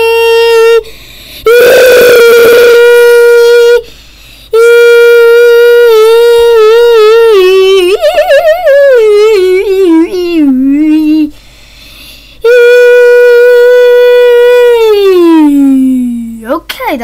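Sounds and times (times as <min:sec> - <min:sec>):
man holding a drawn-out note: 0:00.0 - 0:03.9, 0:04.5 - 0:11.4, 0:12.4 - 0:16.2.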